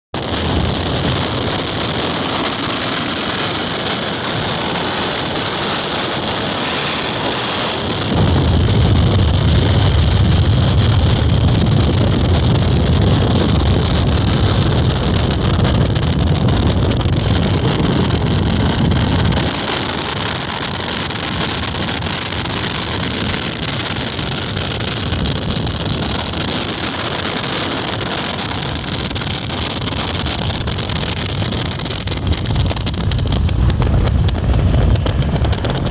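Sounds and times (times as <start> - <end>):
gusty wind on microphone: 0.1 - 35.9.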